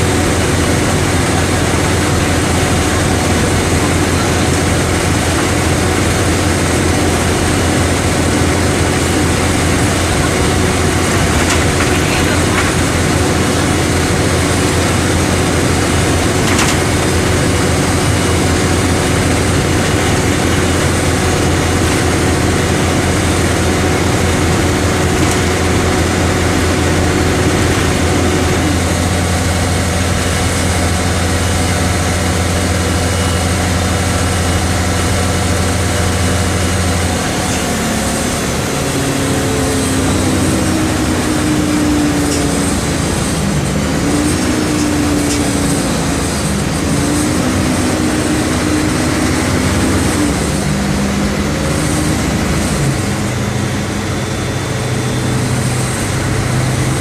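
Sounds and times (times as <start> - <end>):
diesel bus engine droning: 0.0 - 57.0.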